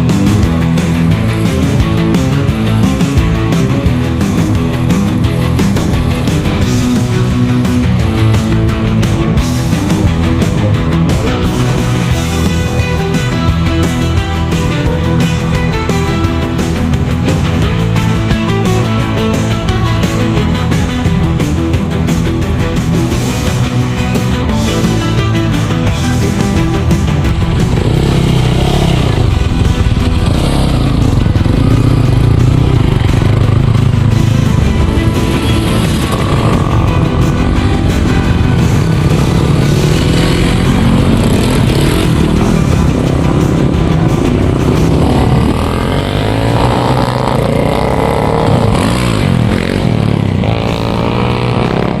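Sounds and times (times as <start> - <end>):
motorbike engine running hard: 0.0 - 52.0.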